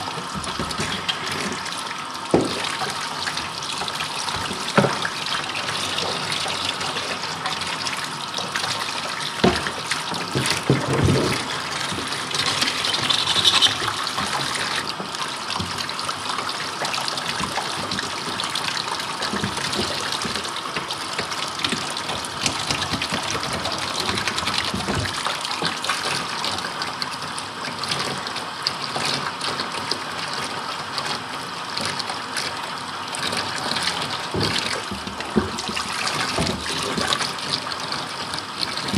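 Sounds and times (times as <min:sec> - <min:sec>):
hot water running and splashing: 0:00.0 - 0:38.9.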